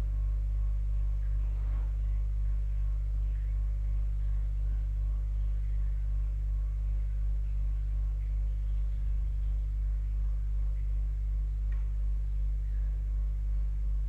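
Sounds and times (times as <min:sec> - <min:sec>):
water pump humming: 0:00.0 - 0:14.0.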